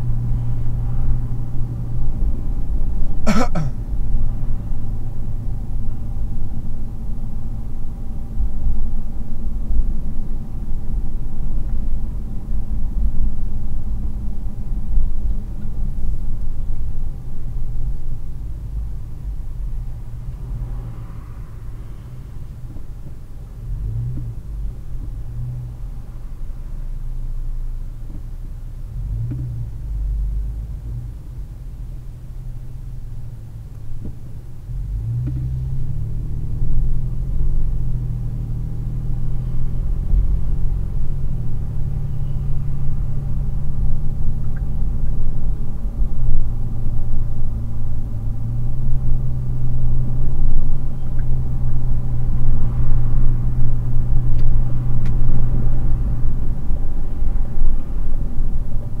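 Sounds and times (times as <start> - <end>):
car engine hum: 0.0 - 59.0
road noise: 0.0 - 59.0.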